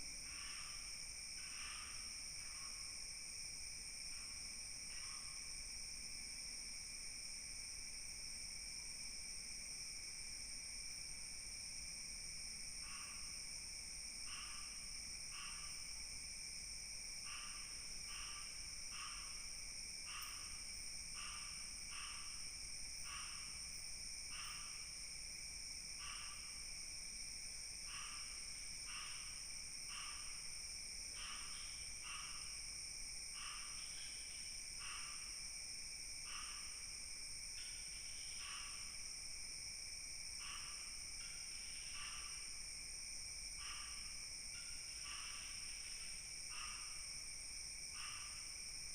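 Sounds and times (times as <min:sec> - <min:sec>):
short insect call: 0:00.0 - 0:48.9
crickets trilling: 0:07.4 - 0:48.9.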